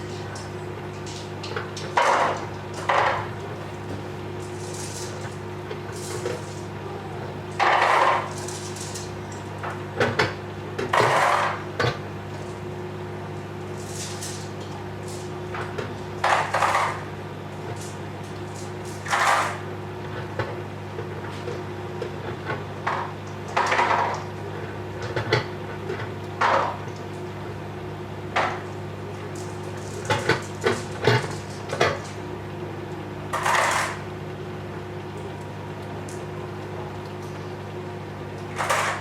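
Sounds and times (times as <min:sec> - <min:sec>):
popcorn popping: 0:00.0 - 0:34.2
microwave oven humming: 0:00.0 - 0:39.0.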